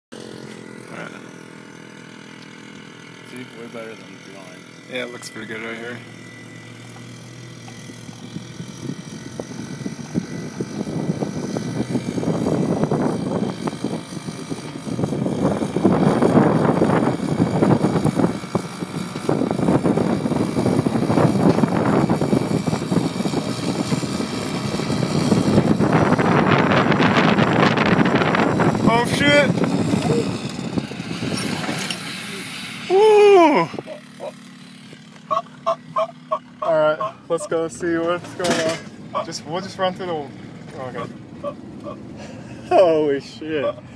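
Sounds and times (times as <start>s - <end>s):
light aircraft engine and propeller: 0.1s - 43.9s.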